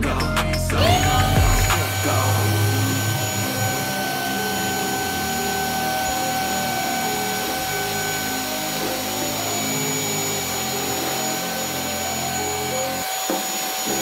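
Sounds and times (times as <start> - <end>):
handheld vacuum cleaner whining: 0.8 - 14.0.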